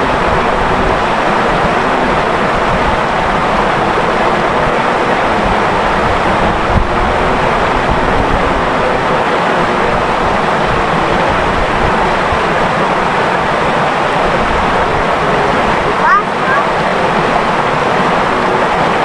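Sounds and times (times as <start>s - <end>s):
stream flowing and babbling: 0.0s - 19.0s.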